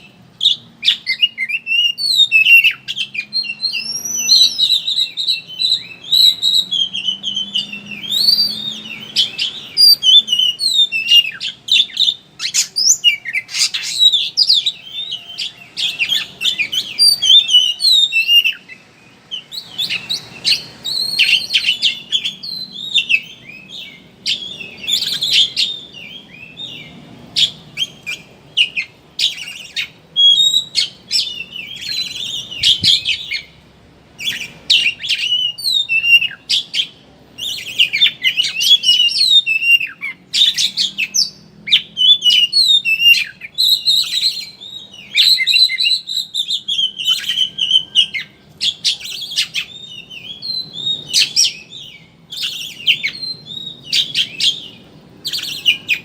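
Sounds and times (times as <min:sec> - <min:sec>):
songbird singing fast chirps: 0:00.0 - 0:56.0.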